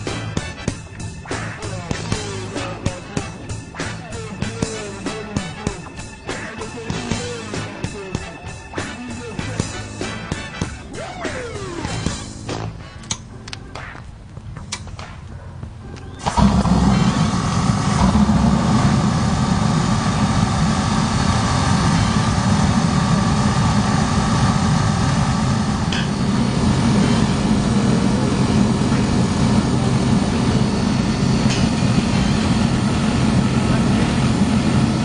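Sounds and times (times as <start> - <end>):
burner blower and flame: 0.0 - 13.3, 16.2 - 35.0
burners igniting: 0.0 - 15.4, 16.0 - 35.0.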